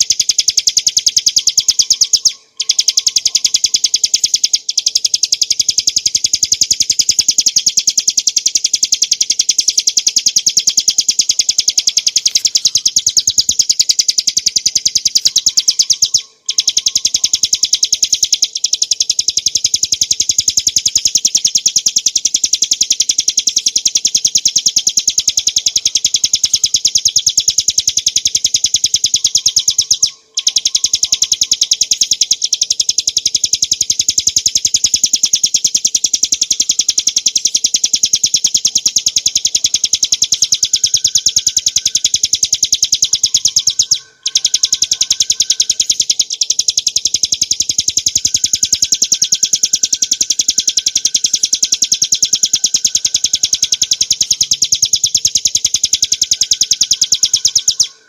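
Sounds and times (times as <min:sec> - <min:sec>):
bird singing a rattling trill: 0:00.0 - 0:58.0.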